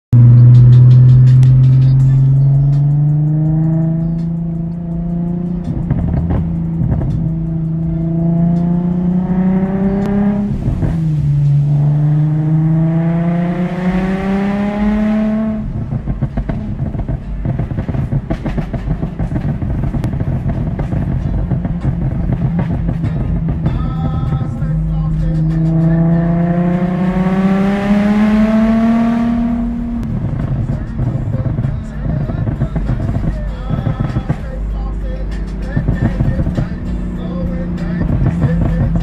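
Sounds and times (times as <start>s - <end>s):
car engine accelerating hard: 0.1s - 39.0s
uneven pulsing engine rumble: 0.1s - 39.0s.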